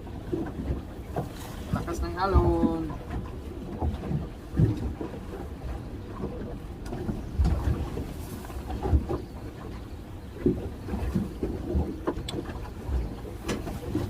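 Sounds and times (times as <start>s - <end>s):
waves slapping boat hull: 0.0s - 14.0s.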